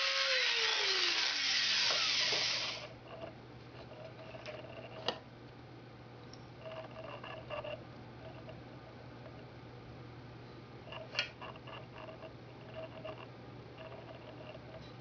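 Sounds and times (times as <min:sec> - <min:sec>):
low steady hum: 0:02.8 - 0:15.0.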